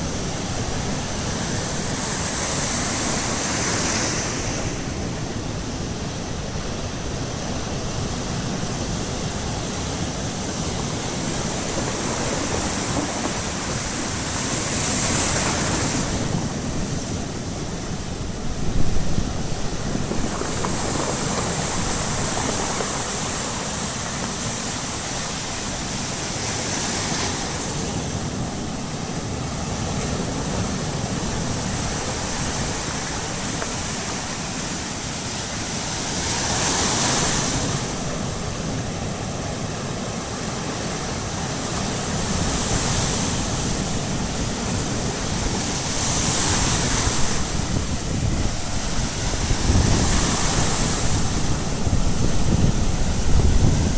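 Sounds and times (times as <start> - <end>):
waves washing on shore: 0.0 - 53.9
wind rumble on microphone: 0.0 - 53.9.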